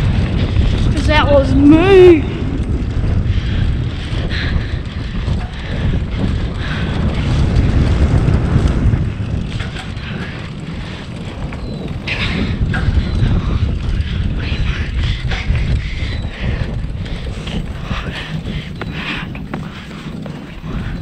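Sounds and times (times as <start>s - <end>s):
bike rattling: 0.0s - 21.0s
wind buffeting microphone: 0.0s - 21.0s
tyre noise on dirt: 2.4s - 21.0s.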